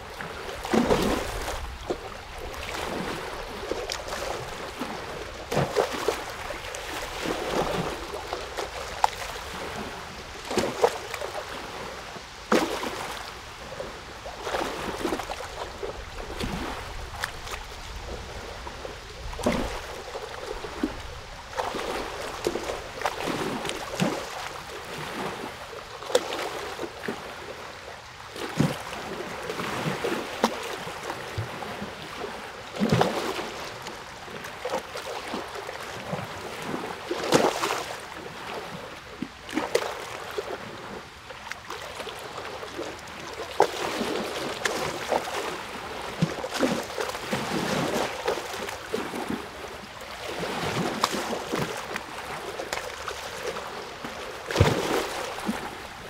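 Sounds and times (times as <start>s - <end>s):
steady watery rush: 0.0s - 56.0s
water splashing and gurgling: 0.0s - 56.0s
small splashes and plops: 0.1s - 11.9s, 12.5s - 18.5s, 19.1s - 27.5s, 28.3s - 55.9s.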